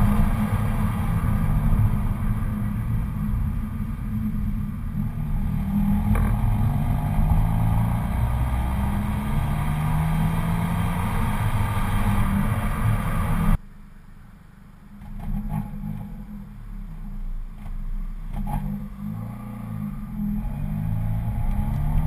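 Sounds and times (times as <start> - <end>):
car exhaust under load: 0.0 - 22.0.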